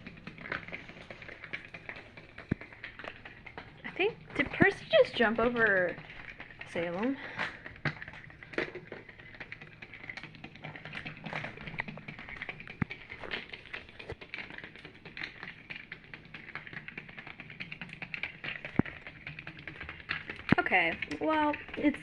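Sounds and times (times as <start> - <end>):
faint motor hum: 0.0 - 22.0
plastic ball clattering: 0.0 - 22.0.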